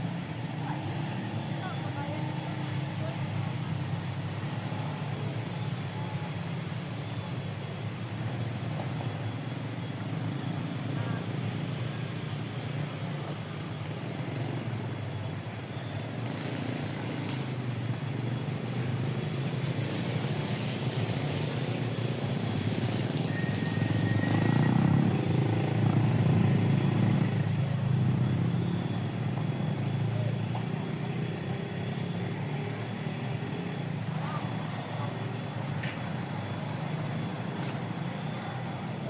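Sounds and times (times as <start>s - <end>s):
small engine pulsing drone: 0.0s - 39.0s.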